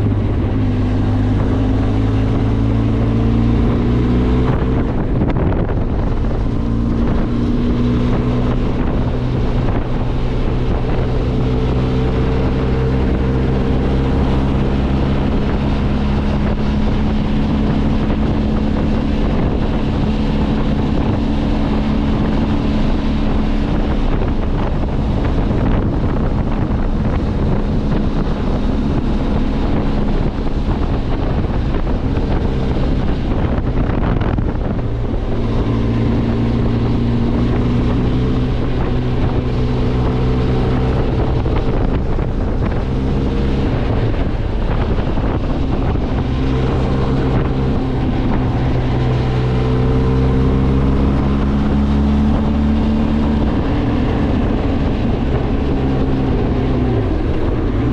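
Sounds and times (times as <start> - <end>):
motorcycle engine running: 0.0 - 57.9
wind rushing over microphone: 0.0 - 57.9.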